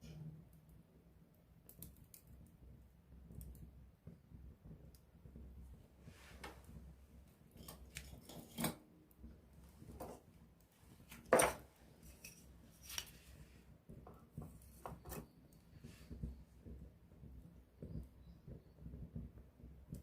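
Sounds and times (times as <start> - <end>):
campfire wood crackling and popping: 0.5 - 20.0.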